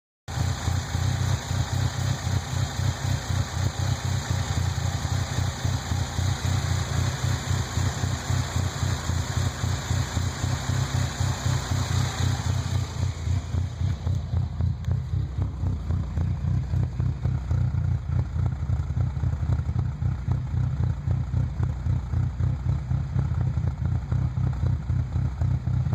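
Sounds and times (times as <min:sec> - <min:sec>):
car engine rough idle: 0:00.3 - 0:25.9.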